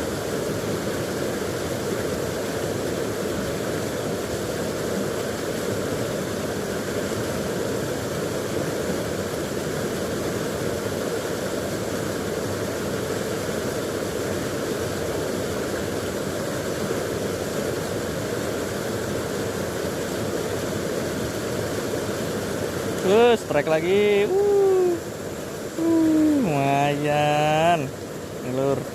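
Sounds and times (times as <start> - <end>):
stream water over rocks: 0.0 - 28.9.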